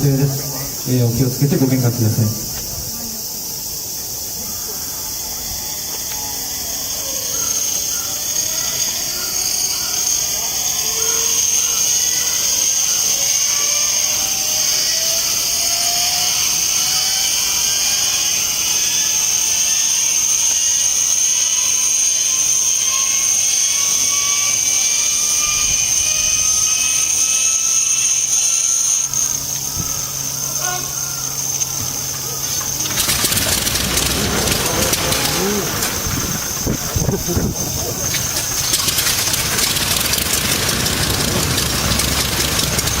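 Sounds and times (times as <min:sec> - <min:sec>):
rhythmic cranking pulses: 0:00.0 - 0:43.0
inertia starter whine rising: 0:04.9 - 0:43.0.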